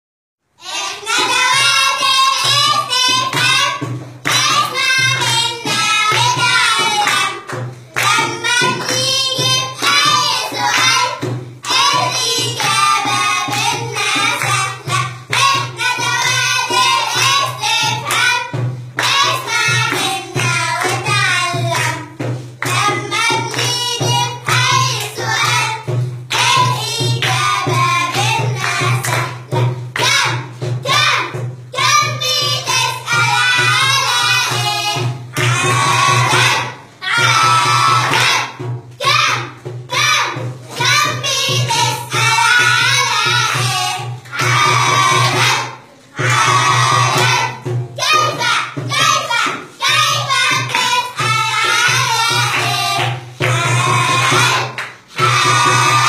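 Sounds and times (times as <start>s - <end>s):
children singing together: 0.6s - 56.0s.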